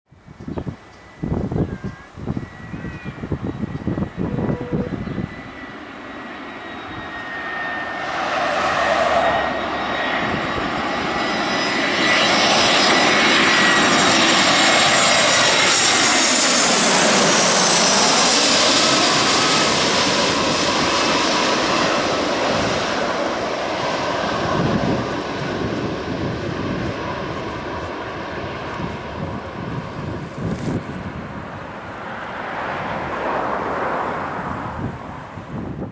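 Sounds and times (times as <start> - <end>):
jet airliner passing overhead: 0.2 - 35.9.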